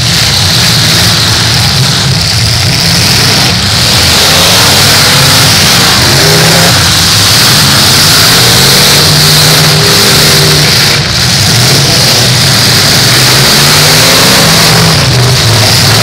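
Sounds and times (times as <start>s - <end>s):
car engines revving: 0.0s - 16.0s
wheels spinning on wet track: 0.0s - 16.0s.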